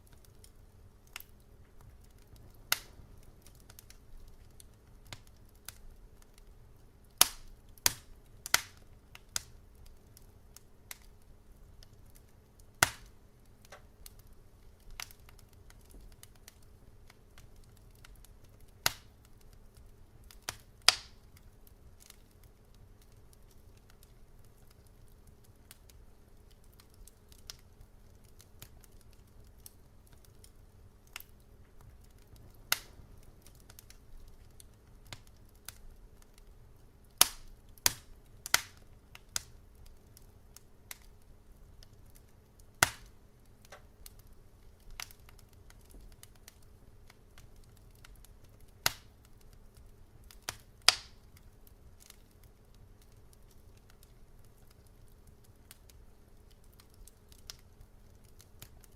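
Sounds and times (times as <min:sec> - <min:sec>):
faint low rumble: 0:00.0 - 0:58.9
wood fire crackling: 0:00.0 - 0:58.9.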